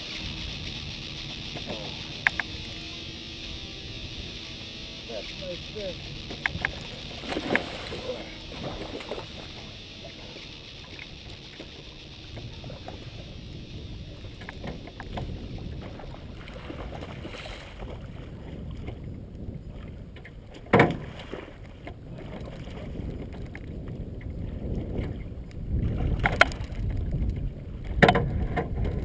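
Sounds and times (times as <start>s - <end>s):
wind buffeting microphone: 0.0s - 29.0s
water slapping against boat: 4.6s - 29.0s.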